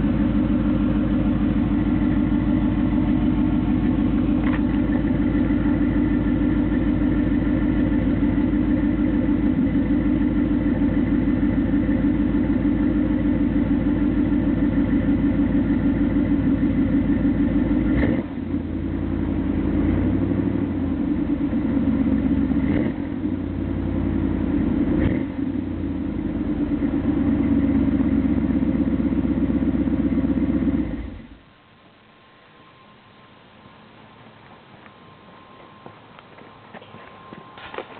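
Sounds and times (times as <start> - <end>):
engine exhaust pulsing: 0.0 - 32.9.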